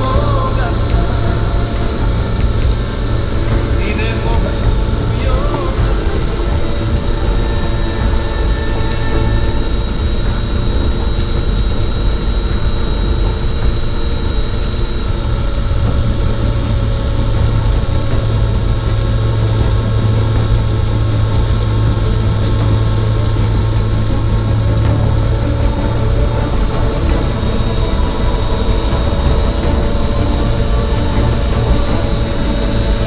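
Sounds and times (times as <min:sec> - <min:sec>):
motor humming: 0:00.0 - 0:33.0.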